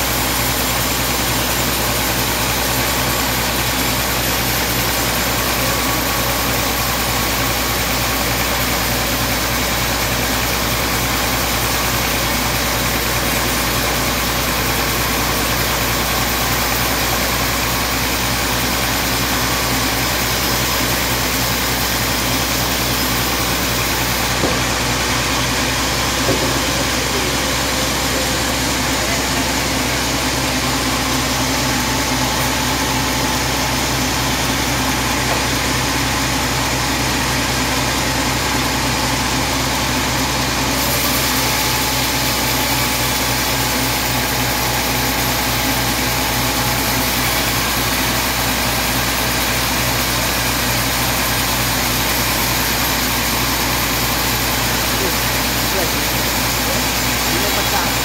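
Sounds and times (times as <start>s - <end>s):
band saw cutting log: 0.0s - 58.0s.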